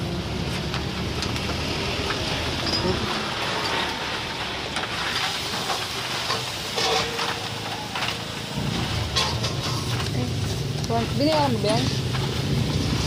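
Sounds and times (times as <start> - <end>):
burning charcoal hissing: 0.0 - 13.0
clinks and scrapes: 1.2 - 13.0.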